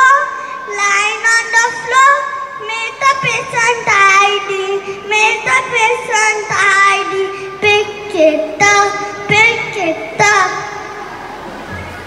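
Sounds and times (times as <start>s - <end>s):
child singing into a microphone: 0.0s - 11.2s.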